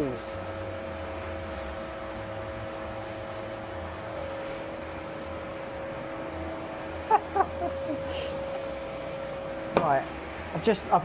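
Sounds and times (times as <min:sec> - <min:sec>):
lathe machinery humming: 0:00.0 - 0:11.0.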